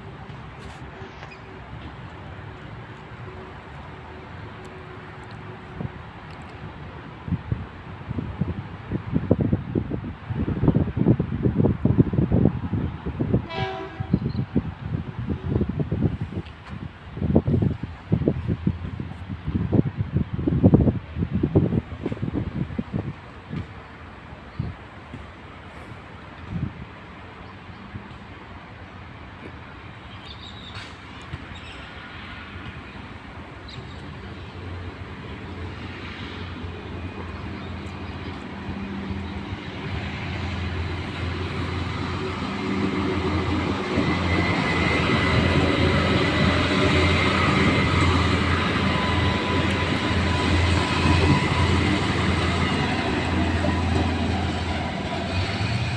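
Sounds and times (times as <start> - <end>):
diesel railcar engines humming: 0.0 - 55.9.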